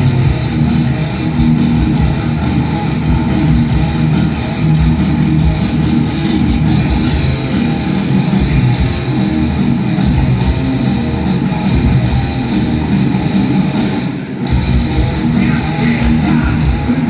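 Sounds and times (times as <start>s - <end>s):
bass guitar: 0.0s - 17.0s
distorted electric guitars: 0.0s - 17.0s
drum kit: 0.0s - 17.0s.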